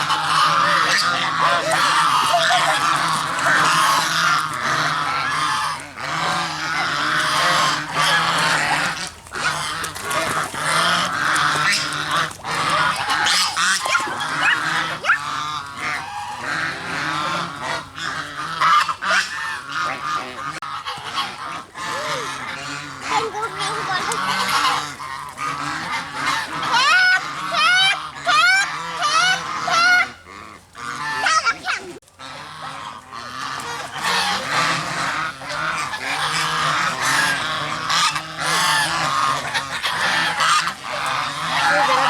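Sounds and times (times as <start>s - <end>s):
geese honking: 0.0s - 42.0s.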